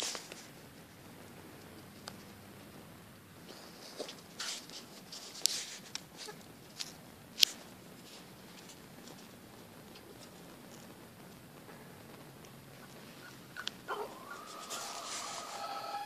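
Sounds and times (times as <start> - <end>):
burning plastic crackling: 0.0 - 16.0
faint hiss: 0.0 - 16.0.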